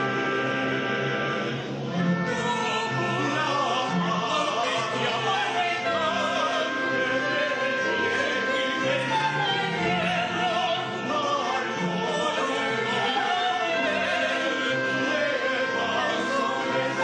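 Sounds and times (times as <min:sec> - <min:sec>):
choir singing: 0:00.0 - 0:17.0
operatic solo singing: 0:00.0 - 0:17.0
orchestra chords: 0:00.0 - 0:17.0.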